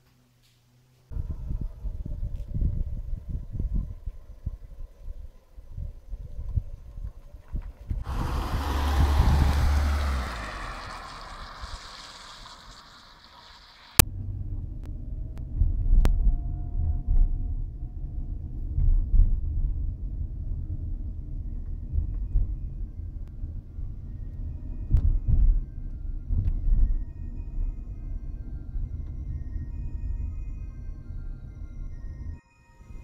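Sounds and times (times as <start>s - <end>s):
car engine and tyres rumbling: 0.9s - 32.4s.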